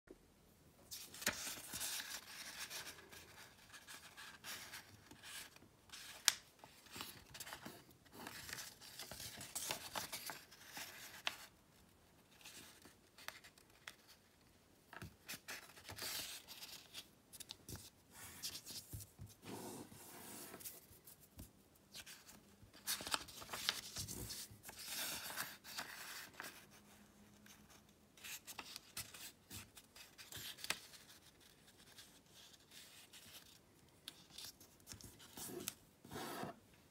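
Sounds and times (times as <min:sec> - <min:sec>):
paper rustling as folded: 0:00.9 - 0:11.6, 0:15.0 - 0:36.5.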